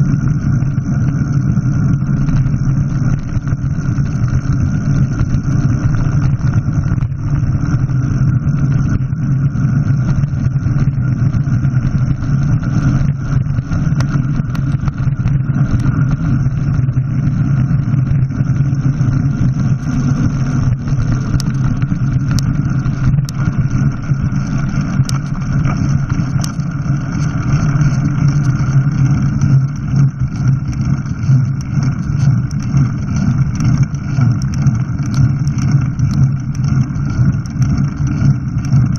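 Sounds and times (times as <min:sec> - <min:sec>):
vehicle rumble on rough track: 0:00.0 - 0:38.9.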